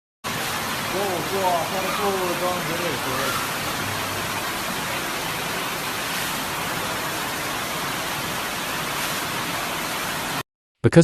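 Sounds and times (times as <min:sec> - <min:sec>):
rushing water from torrential rain: 0:00.3 - 0:10.4.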